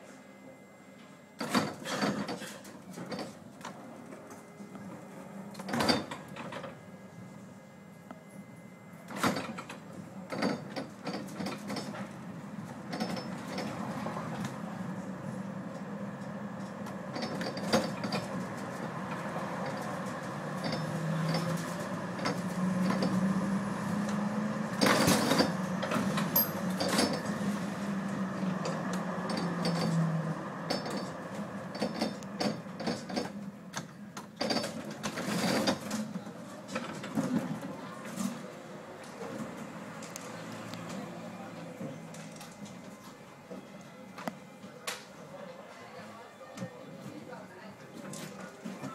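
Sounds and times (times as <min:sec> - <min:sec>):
tram motor hum: 0:00.1 - 0:48.9.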